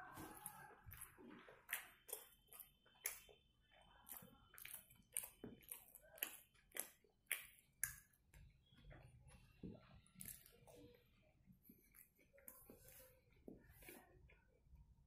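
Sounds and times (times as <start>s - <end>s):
person chewing with wet smacking: 0.0s - 14.6s.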